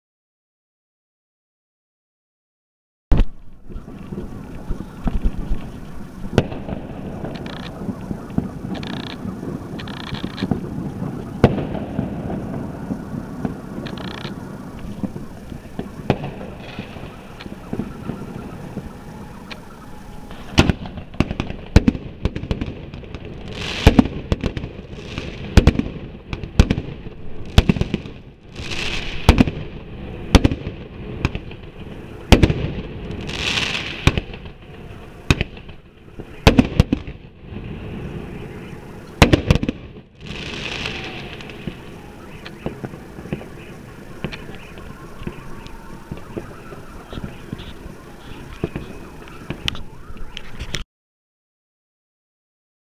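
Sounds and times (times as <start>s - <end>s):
steady low background noise: 3.1s - 50.4s
fireworks bangs: 3.1s - 50.6s
fireworks crackling hiss: 3.2s - 50.8s.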